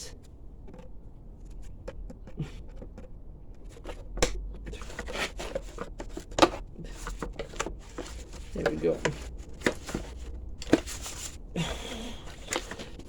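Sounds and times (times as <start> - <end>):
small clicks scrapes and rattles: 0.2 - 11.4, 12.2 - 13.0.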